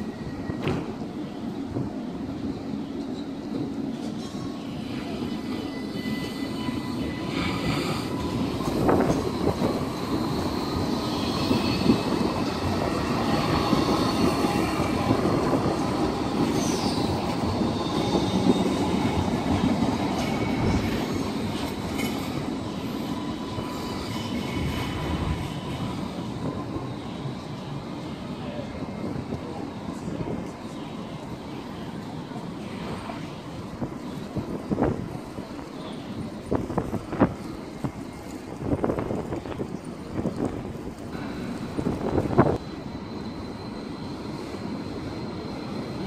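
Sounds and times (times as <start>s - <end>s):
tram wheels rumbling on rail: 0.0s - 46.0s.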